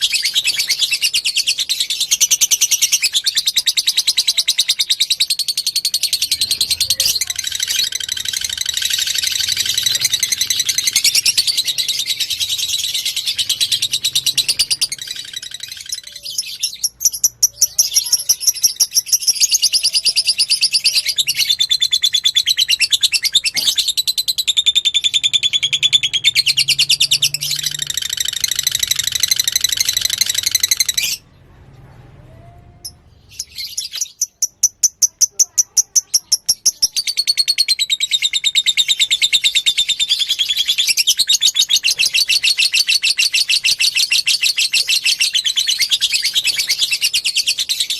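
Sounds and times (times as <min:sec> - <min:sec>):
lovebird chattering song: 0:00.0 - 0:31.2, 0:32.8 - 0:47.9.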